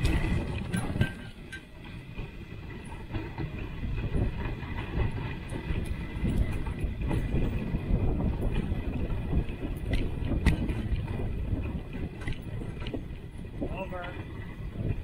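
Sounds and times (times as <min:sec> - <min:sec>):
sled runners scraping snow: 0:00.0 - 0:15.0
wind on microphone: 0:00.0 - 0:15.0.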